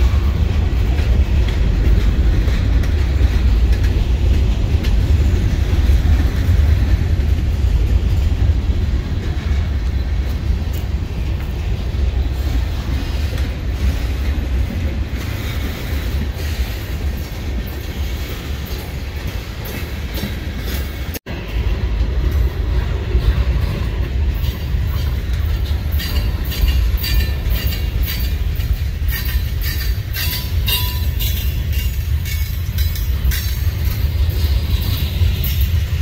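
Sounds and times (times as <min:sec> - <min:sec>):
freight train rumble: 0:00.0 - 0:36.0
wheels clacking on rails: 0:00.0 - 0:36.0.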